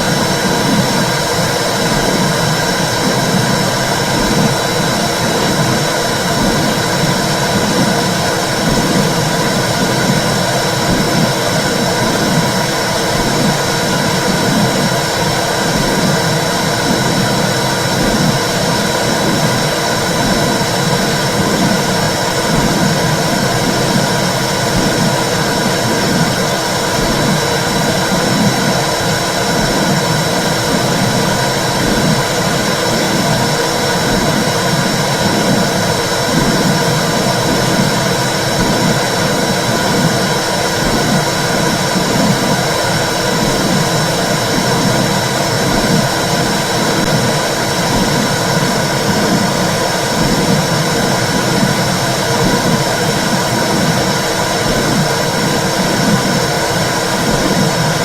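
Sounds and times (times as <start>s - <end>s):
low pulsing: 0.0s - 58.0s.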